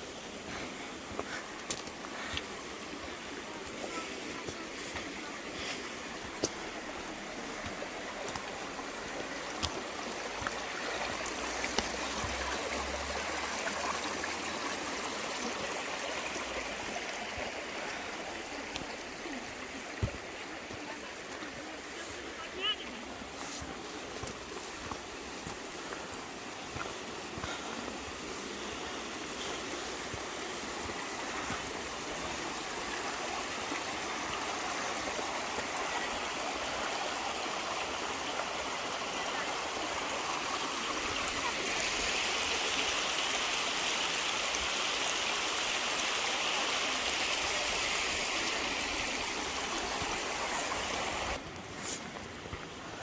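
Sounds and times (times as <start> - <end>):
stream rushing over rocks: 0.0 - 53.0.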